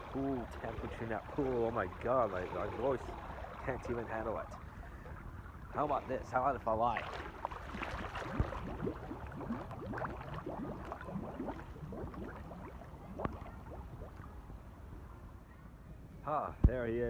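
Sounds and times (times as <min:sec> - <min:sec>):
water splashes: 0:00.0 - 0:14.8
pool water sloshing and gurgling: 0:00.0 - 0:15.4.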